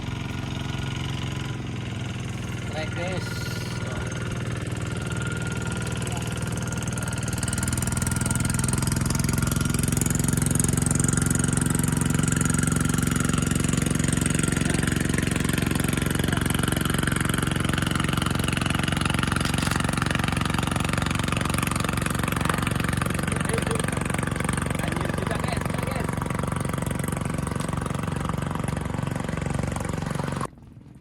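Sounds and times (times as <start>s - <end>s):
small engine running steadily: 0.0s - 31.0s.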